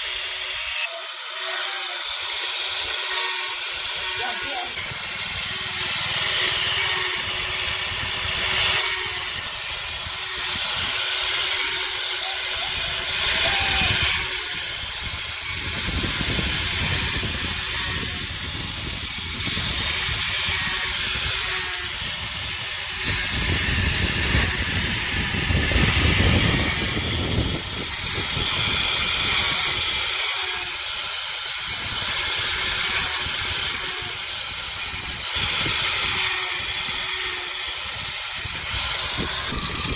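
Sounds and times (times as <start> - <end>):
faint motor hum: 0.0 - 39.9
grinding on steel blade: 0.0 - 39.9.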